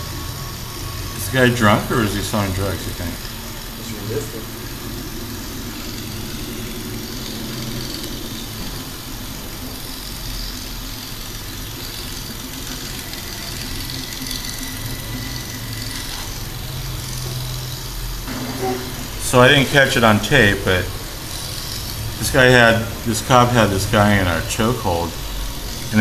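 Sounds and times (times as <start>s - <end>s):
street traffic hum: 0.0s - 26.0s
vehicle engine idling: 0.0s - 26.0s.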